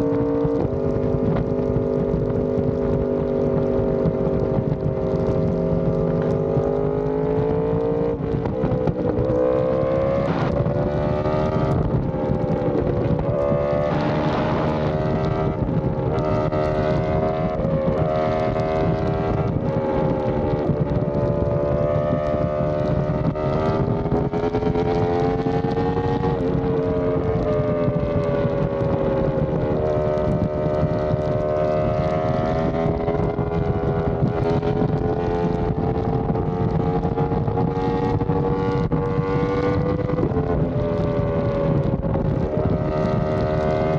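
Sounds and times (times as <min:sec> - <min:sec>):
motorcycle engine revving: 0:00.0 - 0:43.9
wind rushing: 0:00.0 - 0:43.9.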